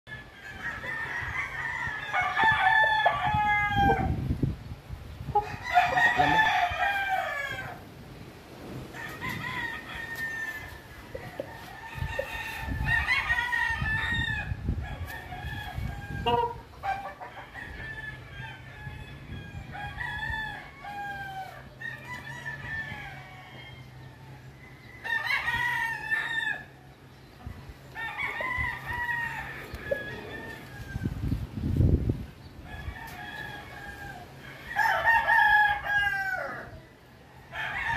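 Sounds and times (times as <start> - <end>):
roosters crowing: 0.1 - 4.5, 5.2 - 37.9.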